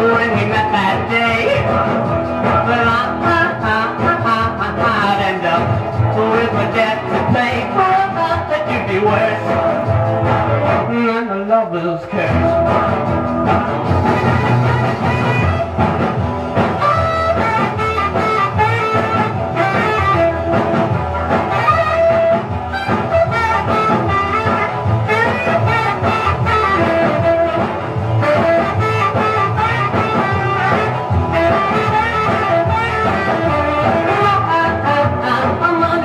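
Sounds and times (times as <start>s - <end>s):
rock and roll music with guitar: 0.0s - 36.0s.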